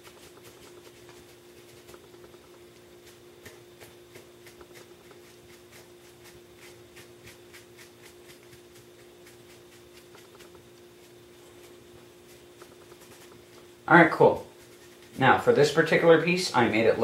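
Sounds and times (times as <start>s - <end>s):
rag brushing over foam: 0.0s - 17.0s
steady low hum: 0.0s - 17.0s.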